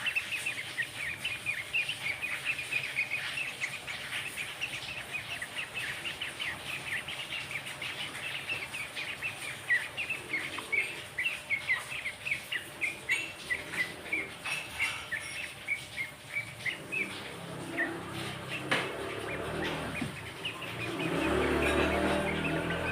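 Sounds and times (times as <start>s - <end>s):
songbird chirping rapidly: 0.0s - 22.9s.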